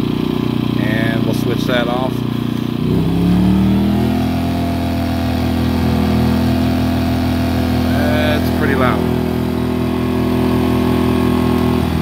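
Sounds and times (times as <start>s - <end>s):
generator engine speeding up: 0.0s - 12.0s.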